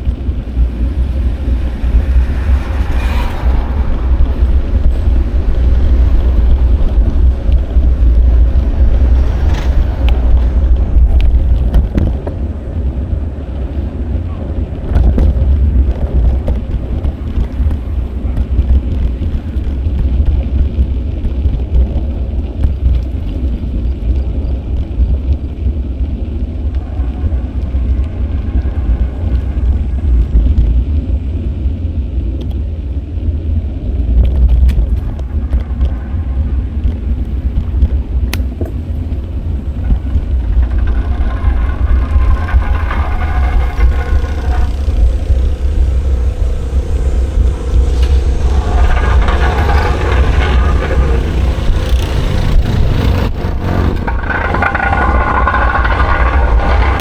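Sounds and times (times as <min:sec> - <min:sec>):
street traffic: 0:00.0 - 0:20.0, 0:26.1 - 0:57.0
wind buffeting microphone: 0:00.0 - 0:57.0.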